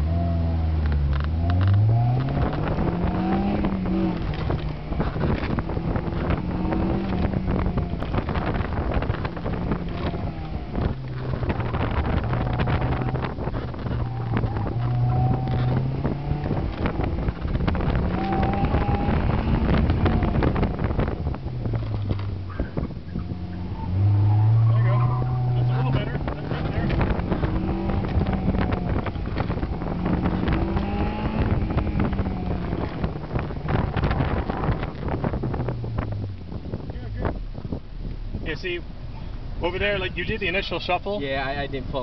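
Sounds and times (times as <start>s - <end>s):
car engine revving: 0.0s - 42.0s
wind noise on microphone: 0.0s - 42.0s.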